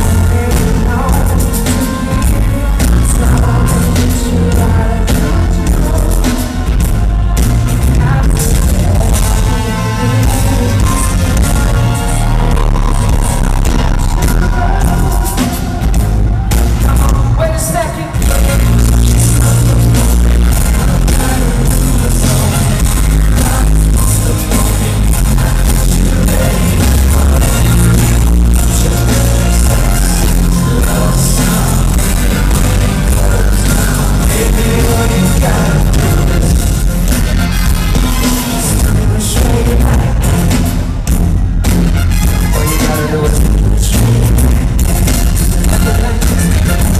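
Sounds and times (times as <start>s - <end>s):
drums and heavy bass: 0.0s - 46.9s
live band music: 0.0s - 46.9s
male lead singer: 0.0s - 46.9s.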